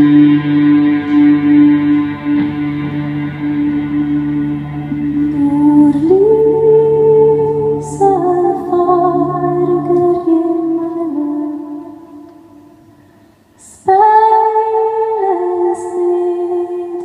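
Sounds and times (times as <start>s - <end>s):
sustained electric guitar: 0.0s - 17.0s.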